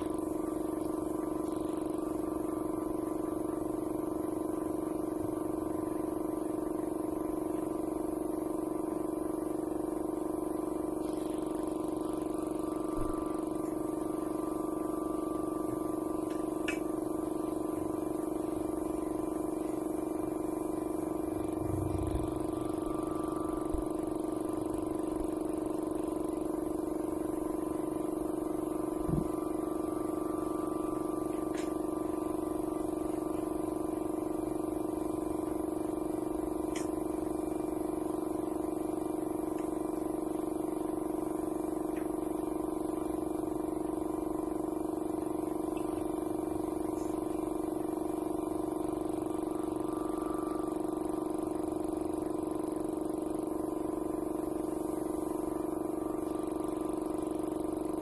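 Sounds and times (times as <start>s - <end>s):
air compressor humming: 0.0s - 58.0s.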